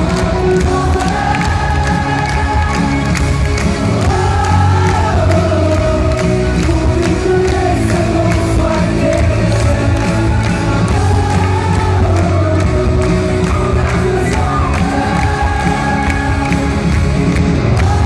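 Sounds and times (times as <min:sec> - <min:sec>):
man singing: 0:00.0 - 0:03.1, 0:04.1 - 0:16.7
bass guitar: 0:00.0 - 0:18.0
live pop-rock band: 0:00.0 - 0:18.0.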